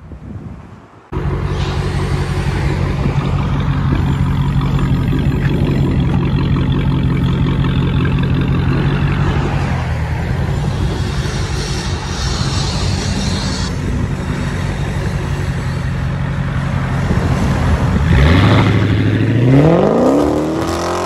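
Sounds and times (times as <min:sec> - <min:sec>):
car engine idling: 0:01.1 - 0:19.4.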